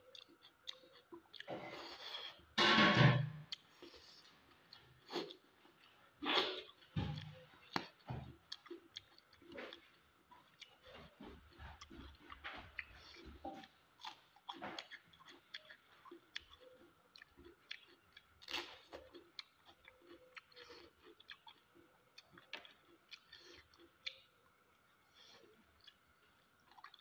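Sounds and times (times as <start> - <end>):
man chewing food: 0.0 - 2.6, 3.4 - 27.0.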